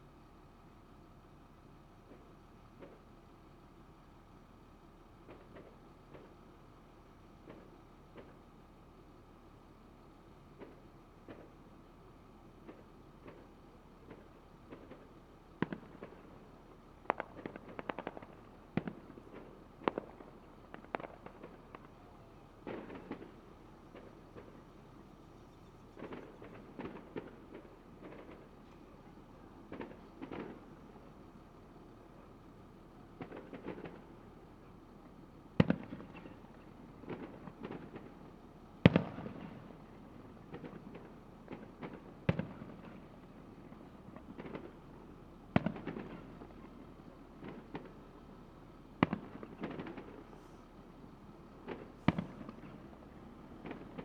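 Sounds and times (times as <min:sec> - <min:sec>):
fireworks bangs and cracks: 0:07.4 - 0:08.6, 0:10.5 - 0:54.0.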